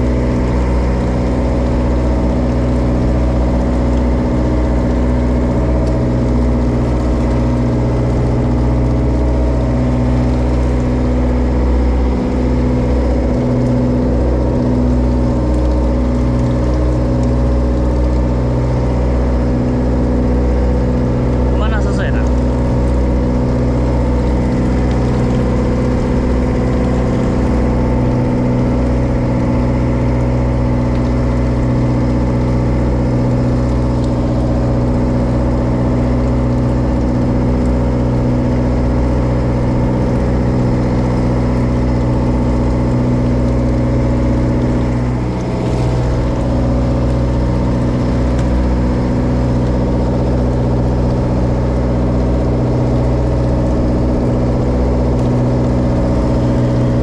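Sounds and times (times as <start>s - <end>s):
boat engine running steadily: 0.0s - 57.0s.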